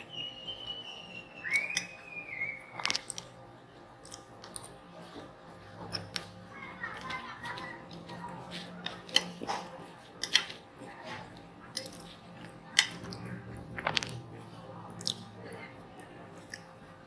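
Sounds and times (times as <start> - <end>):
chewing noodles: 2.8 - 17.0.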